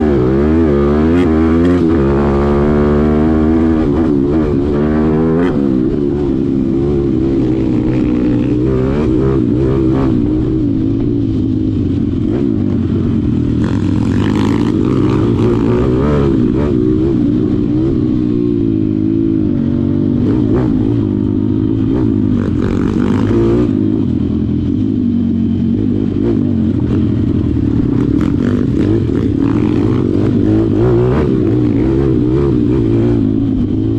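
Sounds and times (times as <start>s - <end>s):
motorbike engine revving: 0.0s - 33.9s.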